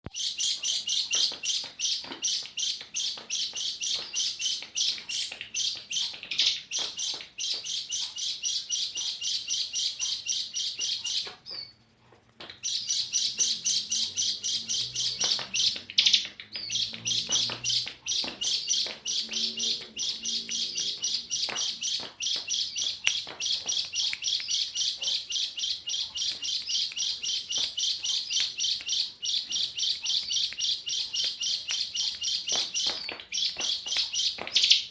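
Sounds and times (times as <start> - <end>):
pet bird chirping: 0.0 - 34.9.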